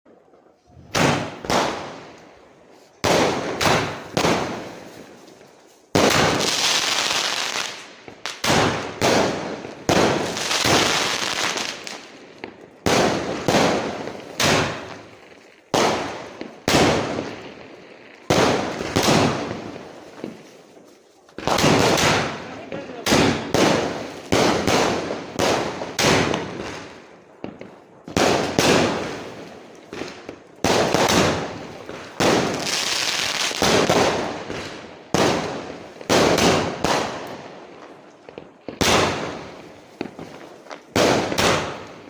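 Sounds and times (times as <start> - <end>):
firework crackle: 0.2 - 42.0
firework bangs: 0.7 - 2.2, 3.0 - 5.3, 5.9 - 42.0.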